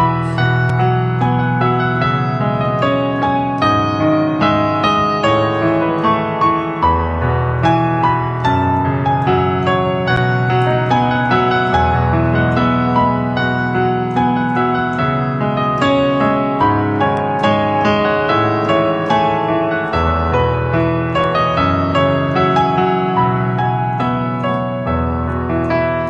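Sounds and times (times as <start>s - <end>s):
piano playing: 0.0s - 26.0s.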